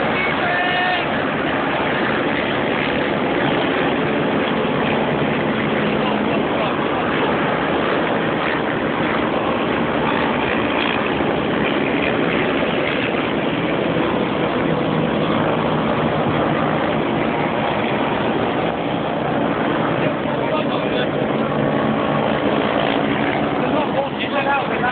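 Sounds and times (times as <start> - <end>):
many racing engines running: 0.0 - 24.9.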